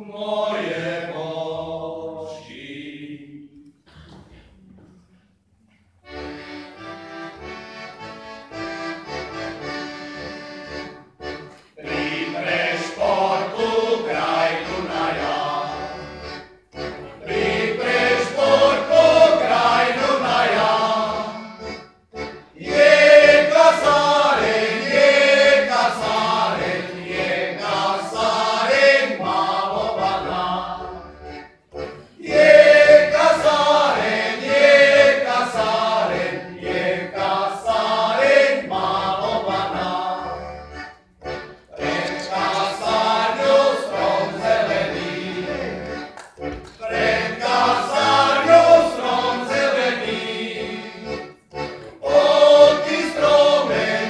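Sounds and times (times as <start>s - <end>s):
men's choir singing: 0.0s - 3.7s, 11.8s - 21.7s, 22.5s - 31.3s, 32.1s - 46.1s, 46.8s - 54.0s
accordion: 6.0s - 54.0s.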